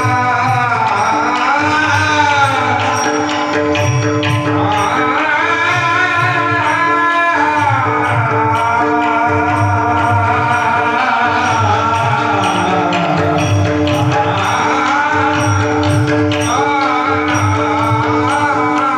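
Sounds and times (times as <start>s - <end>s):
man singing devotional song: 0.0s - 18.9s.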